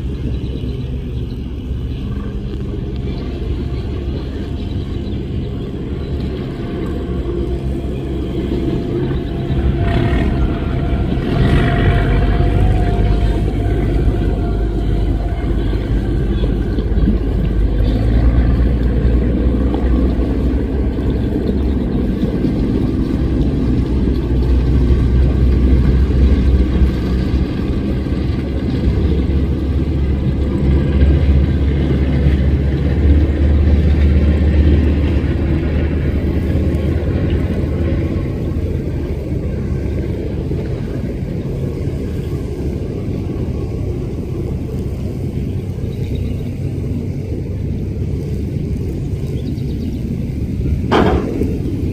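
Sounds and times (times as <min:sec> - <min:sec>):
speedboat engines rumbling: 0:00.0 - 0:51.9.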